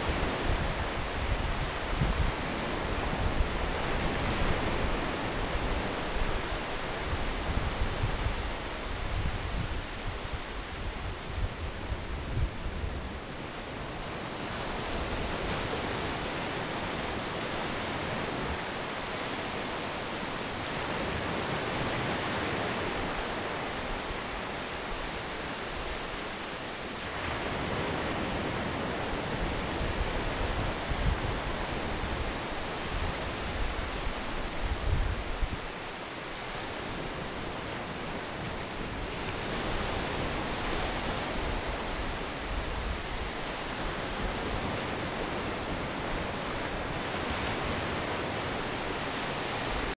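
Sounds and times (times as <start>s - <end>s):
surf washing over sandy beach: 0.0s - 49.9s
wind on microphone: 0.0s - 49.9s.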